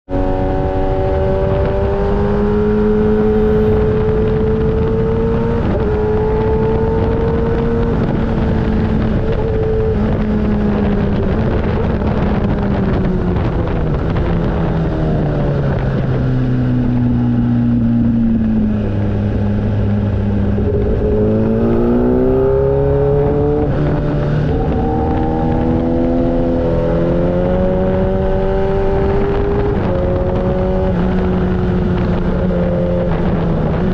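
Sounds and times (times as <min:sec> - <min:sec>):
motorcycle engine revving: 0:00.1 - 0:33.9
steady rushing noise: 0:00.1 - 0:33.9.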